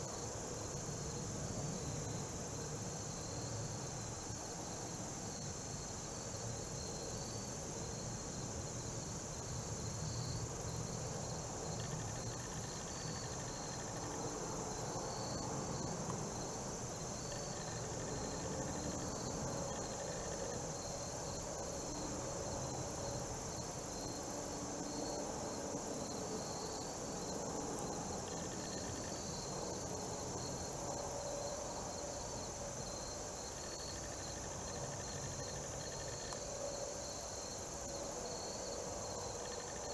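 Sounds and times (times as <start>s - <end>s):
insects chirping rhythmically: 0.0s - 39.9s
insects trilling: 0.0s - 39.9s.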